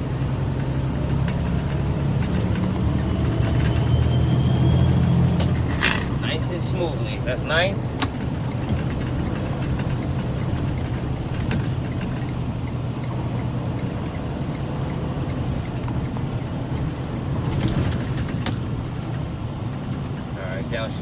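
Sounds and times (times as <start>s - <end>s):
truck diesel engine cruising: 0.0s - 21.0s.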